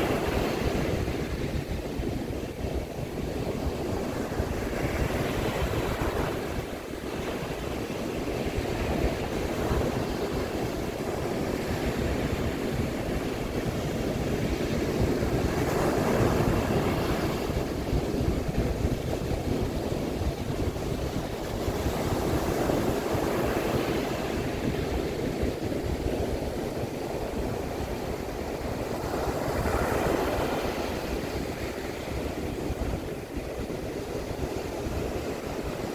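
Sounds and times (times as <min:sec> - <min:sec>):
surf breaking on sandy beach: 0:00.0 - 0:35.9
wind rumble on microphone: 0:00.0 - 0:35.9.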